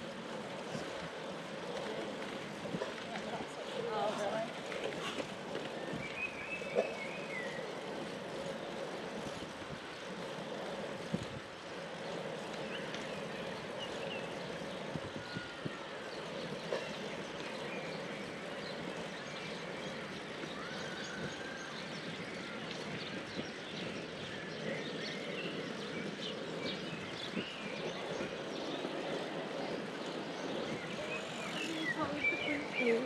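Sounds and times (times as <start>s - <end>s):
bicycle riding noise: 0.0s - 33.0s
road traffic drone: 0.0s - 33.0s
wind: 0.0s - 33.0s.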